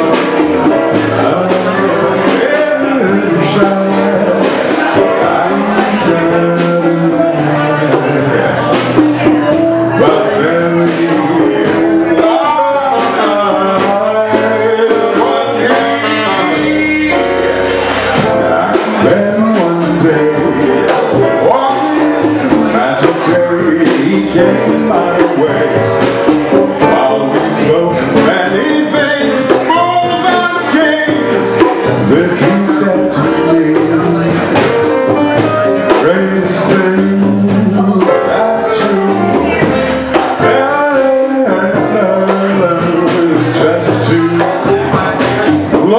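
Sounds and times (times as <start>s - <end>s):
drums keeping a beat: 0.0s - 45.9s
jazz band playing: 0.0s - 45.9s.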